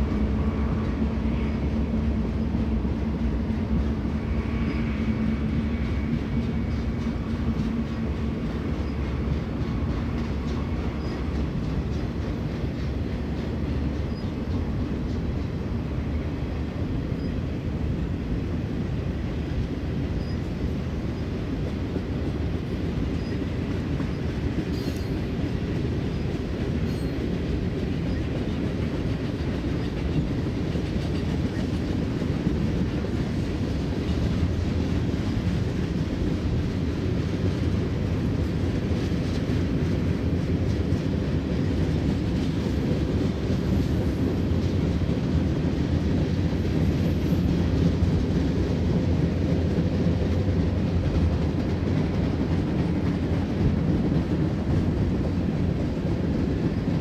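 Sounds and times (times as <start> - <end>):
freight train wheels rumbling: 0.0 - 57.0
rail joint clicks: 0.0 - 57.0.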